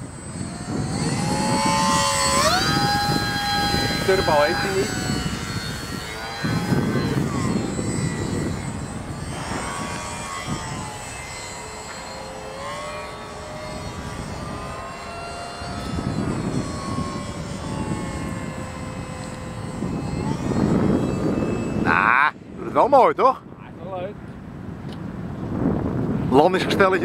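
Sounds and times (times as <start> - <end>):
model airplane motor whining: 0.0 - 27.0.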